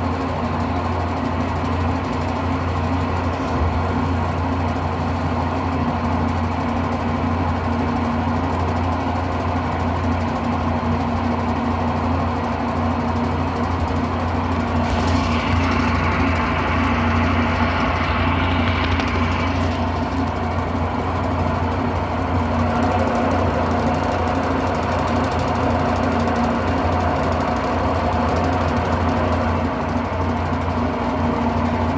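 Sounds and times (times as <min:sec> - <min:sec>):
washing machine spinning: 0:00.0 - 0:31.9.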